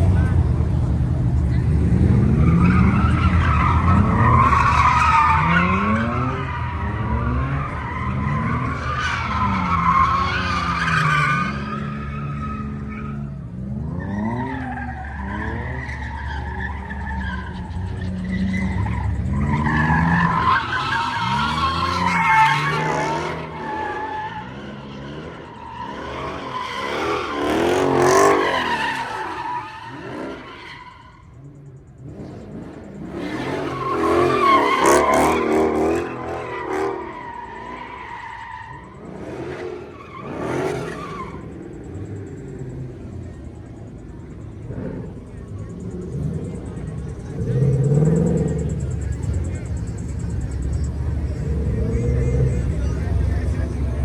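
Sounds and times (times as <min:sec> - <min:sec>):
car engine revving: 0:00.0 - 0:54.0
car tyres squealing: 0:00.0 - 0:54.0.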